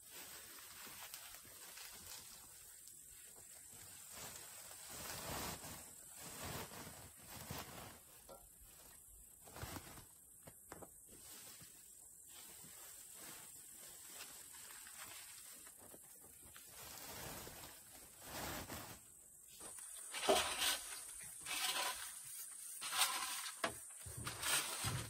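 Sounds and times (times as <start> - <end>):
wood shavings rustling: 0.0 - 10.2, 11.1 - 25.0
plastic sack rustling: 0.0 - 25.0.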